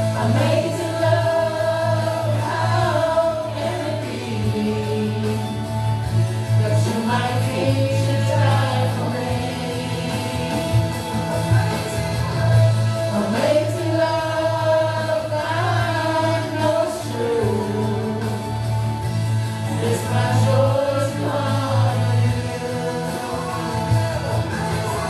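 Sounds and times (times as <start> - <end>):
group singing worship song: 0.0 - 25.0
musical accompaniment: 0.0 - 25.0.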